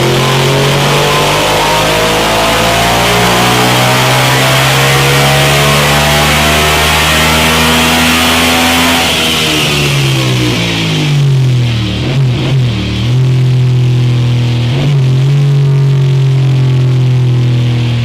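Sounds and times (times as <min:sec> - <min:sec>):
motorcycle engine revving under load: 0:00.0 - 0:18.0.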